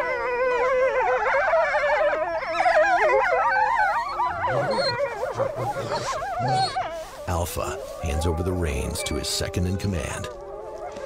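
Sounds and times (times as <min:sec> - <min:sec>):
wolves whining and yelping: 0:00.0 - 0:11.0.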